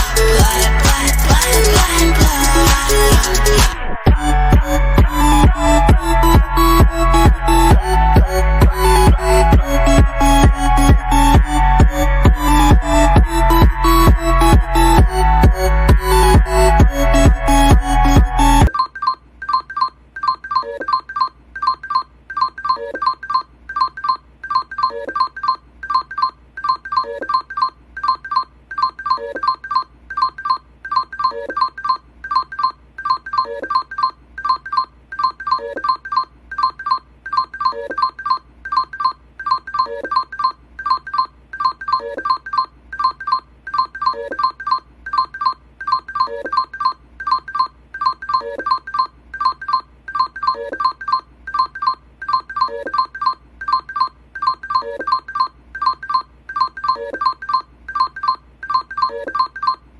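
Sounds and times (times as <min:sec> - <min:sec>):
electronic beeping music: 0:00.0 - 0:59.8.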